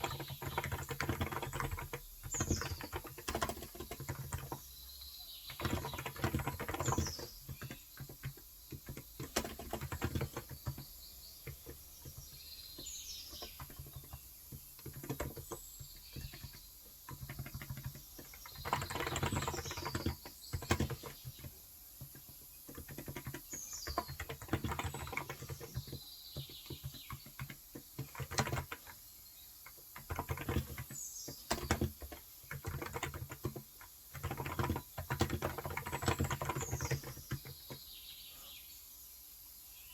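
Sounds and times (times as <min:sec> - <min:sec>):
keyboard typing: 0:00.0 - 0:04.7, 0:05.5 - 0:29.0, 0:29.7 - 0:37.8
birds chirping: 0:00.0 - 0:39.9.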